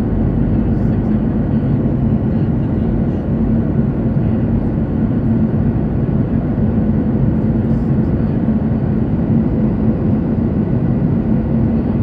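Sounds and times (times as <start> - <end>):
jet engine drone: 0.0 - 12.0.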